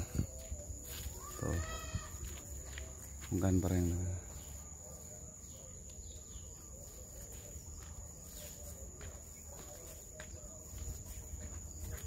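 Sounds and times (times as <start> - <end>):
footsteps on dirt path: 0.0 - 12.0.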